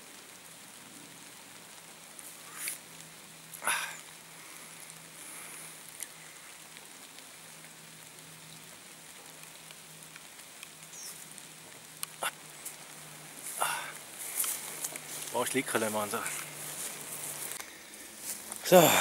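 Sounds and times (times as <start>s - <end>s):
light rain falling: 0.0s - 19.0s.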